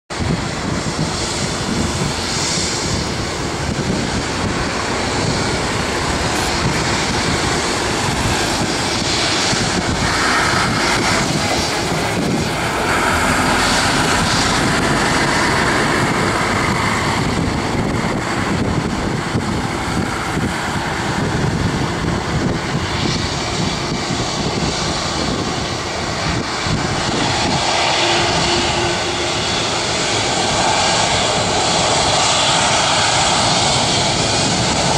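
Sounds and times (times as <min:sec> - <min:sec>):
jet airliner taking off: 0:00.1 - 0:34.9.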